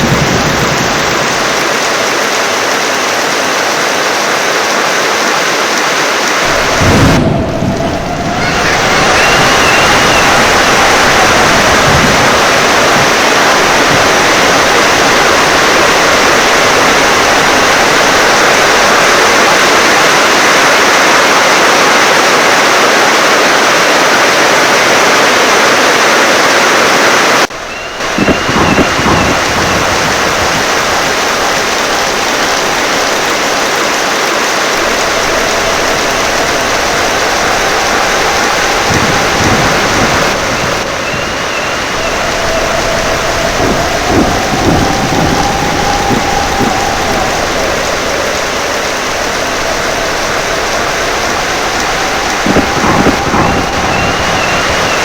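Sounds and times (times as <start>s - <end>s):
low thunder rumbles: 0.0s - 4.2s, 6.2s - 20.9s, 27.4s - 55.0s
heavy rain pouring: 0.0s - 55.0s.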